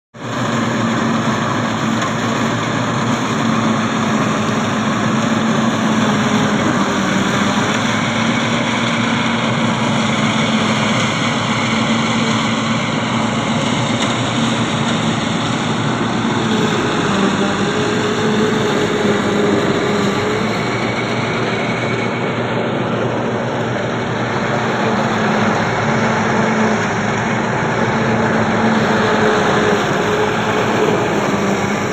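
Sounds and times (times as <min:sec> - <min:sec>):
tractor engine running: 0:00.2 - 0:31.9.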